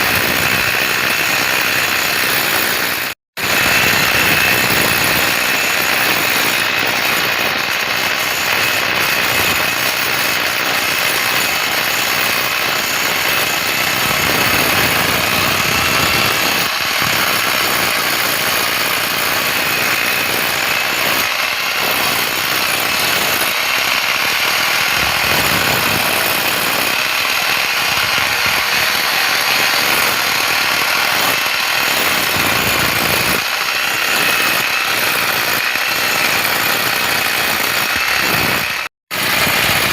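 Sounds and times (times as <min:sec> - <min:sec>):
motor running: 0:00.1 - 0:39.9.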